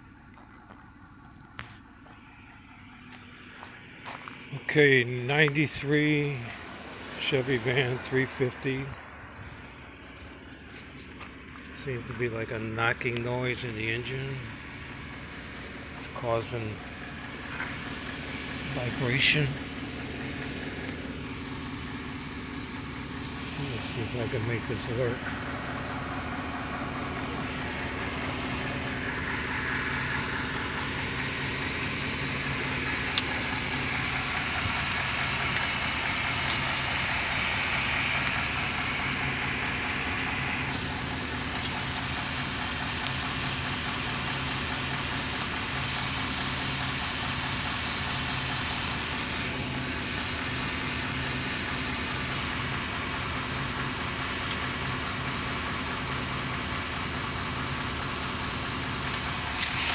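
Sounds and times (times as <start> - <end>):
engine idling with knocking: 0.0 - 59.9.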